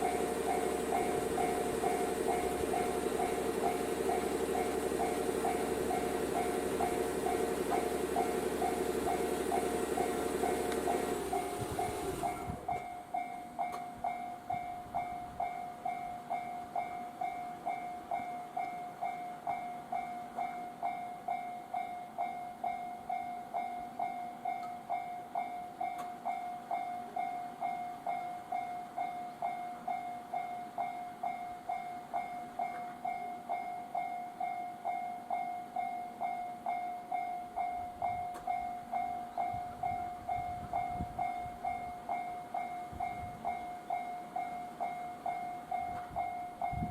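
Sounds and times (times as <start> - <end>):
level-crossing warning bell: 0.0 - 46.9.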